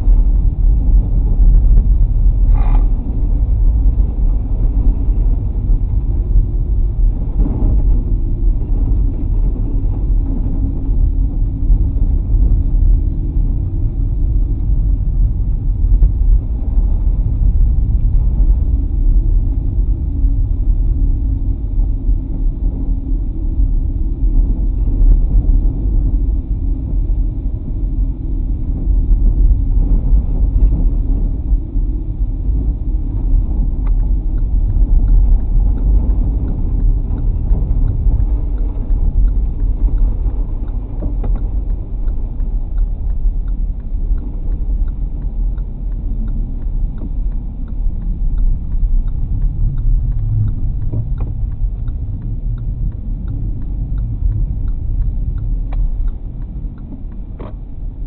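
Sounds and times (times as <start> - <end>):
car driving on snowy road: 0.0 - 58.0.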